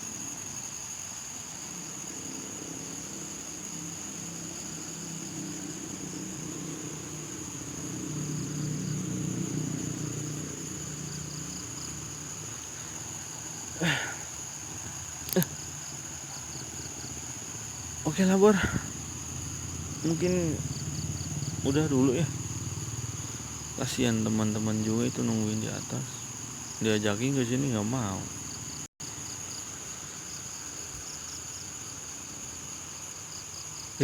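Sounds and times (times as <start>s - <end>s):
crickets trilling: 0.0s - 34.0s.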